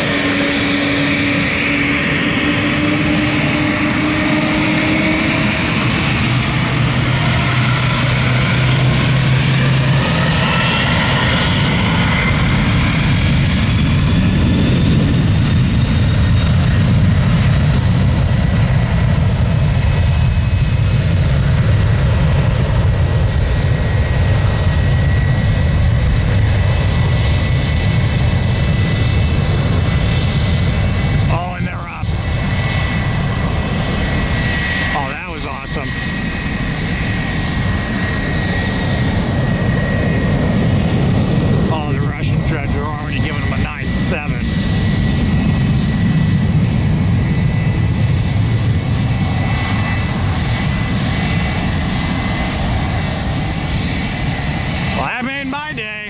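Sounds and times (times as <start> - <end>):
jet engine roar with whine: 0.0 - 56.0.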